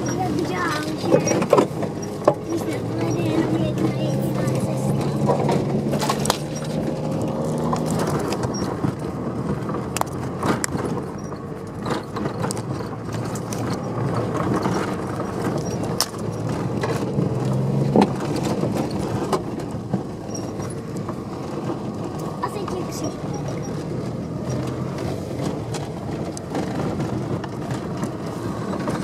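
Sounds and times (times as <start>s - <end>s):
car engine and road noise: 0.0s - 29.0s
knocks and rattles from bumps: 0.0s - 29.0s.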